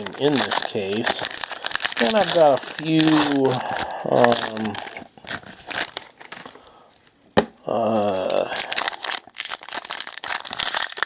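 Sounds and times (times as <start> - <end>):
foil wrappers crinkling and tearing: 0.0 - 6.6, 7.8 - 11.0.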